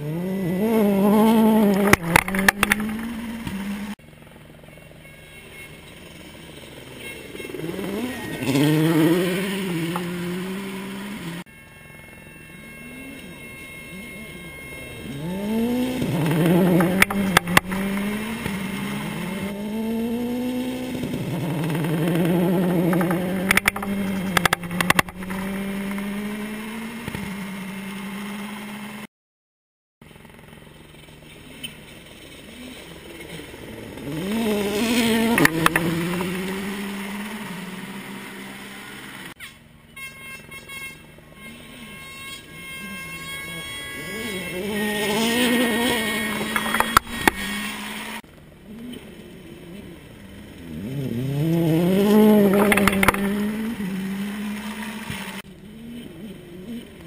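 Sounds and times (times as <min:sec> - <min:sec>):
rally car engines revving: 0:00.0 - 0:11.6, 0:12.3 - 0:29.1, 0:30.2 - 0:39.8, 0:41.0 - 0:57.0.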